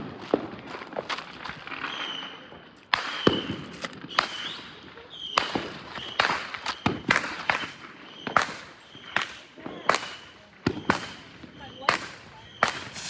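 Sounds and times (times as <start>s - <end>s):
fireworks bangs and pops: 0.0s - 13.0s
fireworks whistling: 1.6s - 13.0s.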